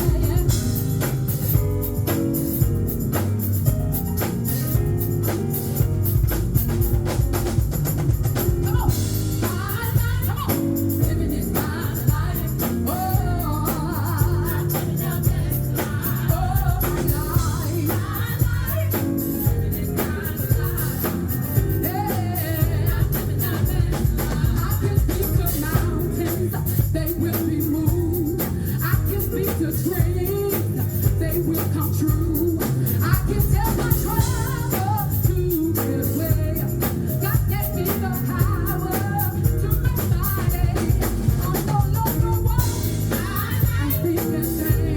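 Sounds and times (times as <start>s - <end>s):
woman singing gospel: 0.0s - 6.4s, 8.3s - 44.9s
drum kit beat: 0.0s - 44.9s
live band playing: 0.0s - 44.9s.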